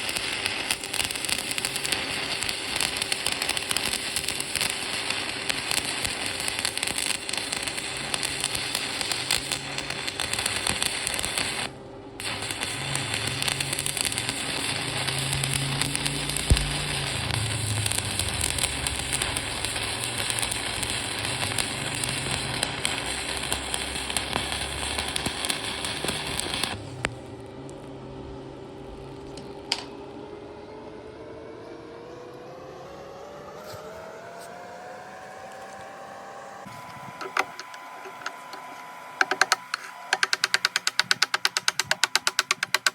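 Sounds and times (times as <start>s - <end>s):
welding arc crackling and sizzling: 0.0s - 27.8s, 34.6s - 42.9s.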